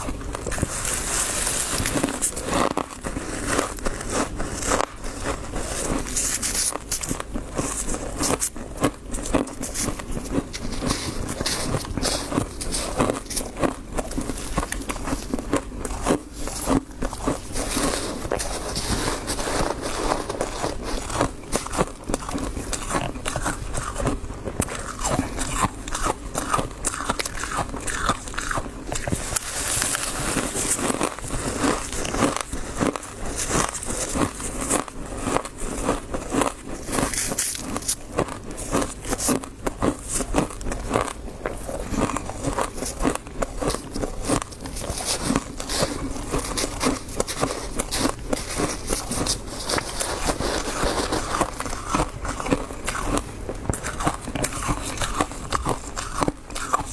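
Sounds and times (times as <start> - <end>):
chewing crunchy frost: 0.0 - 56.9.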